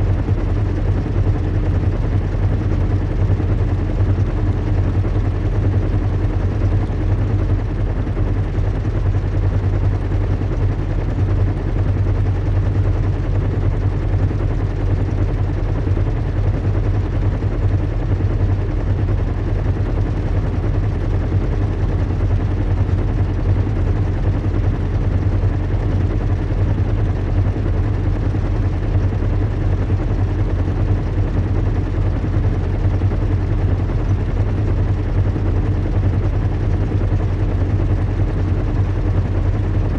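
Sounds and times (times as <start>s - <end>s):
low engine rumble and hum: 0.0s - 39.9s.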